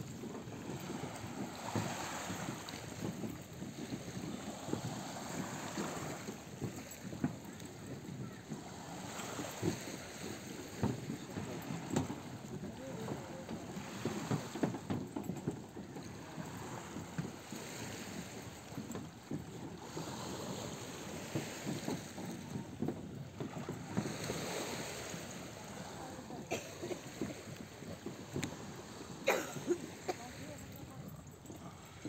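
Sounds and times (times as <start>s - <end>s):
waves lapping on pebble shore: 0.0s - 14.9s, 16.0s - 19.0s, 19.6s - 32.0s.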